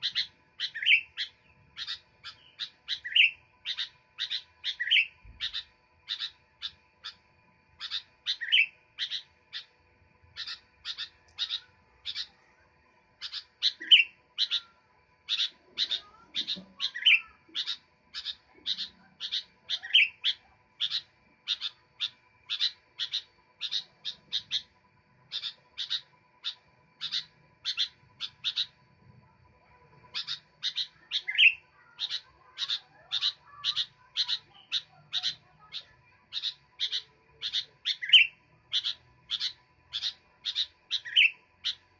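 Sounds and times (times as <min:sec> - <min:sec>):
bulbul singing: 0:00.0 - 0:41.9.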